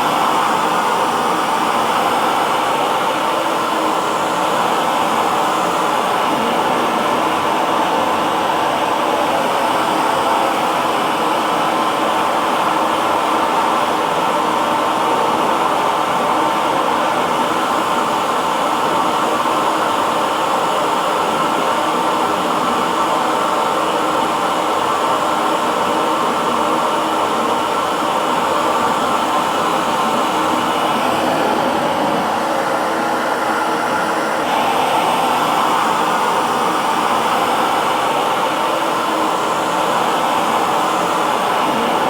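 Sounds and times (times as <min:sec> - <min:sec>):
hair dryer running: 0:00.0 - 0:42.0.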